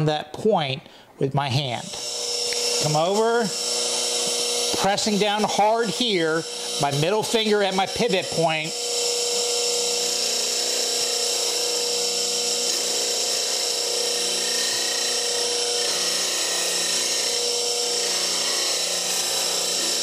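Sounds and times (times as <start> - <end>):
bench grinder grinding steel: 1.7 - 20.0
grinder motor hum: 1.7 - 20.0.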